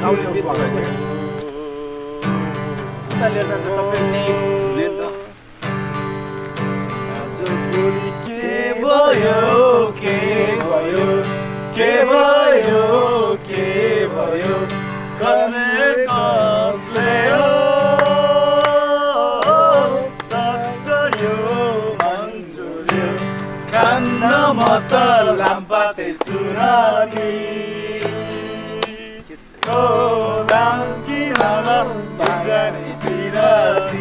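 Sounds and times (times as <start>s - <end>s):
person singing: 0.0s - 5.6s, 6.9s - 34.0s
acoustic guitar strumming: 0.0s - 34.0s.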